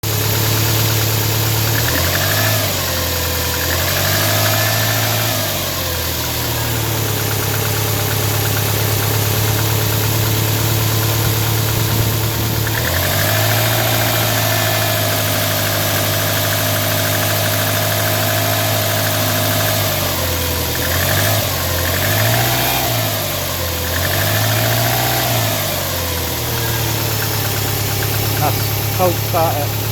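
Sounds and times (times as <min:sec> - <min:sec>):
engine knocking: 0:00.0 - 0:29.9.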